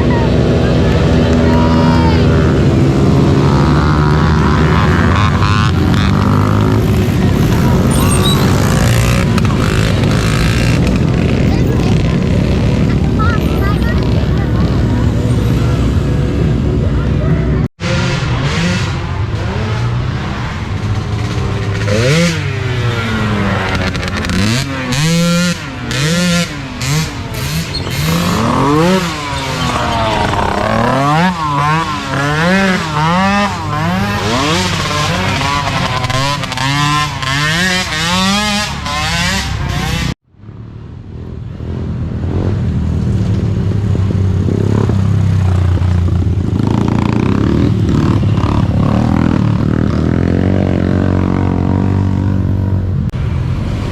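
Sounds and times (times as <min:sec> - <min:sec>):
small atv engines revving: 0:00.0 - 0:40.2, 0:41.6 - 0:53.9.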